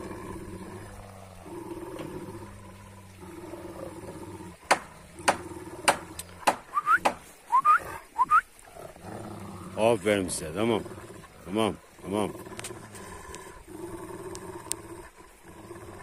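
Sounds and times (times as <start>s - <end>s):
dogs growling: 0.0s - 16.0s.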